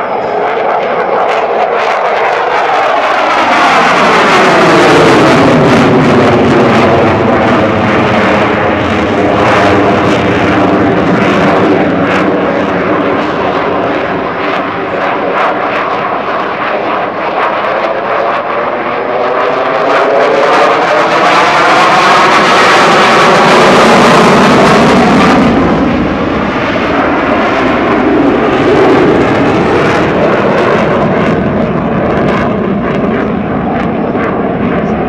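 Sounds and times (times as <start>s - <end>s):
jet engine roaring: 0.0s - 35.0s.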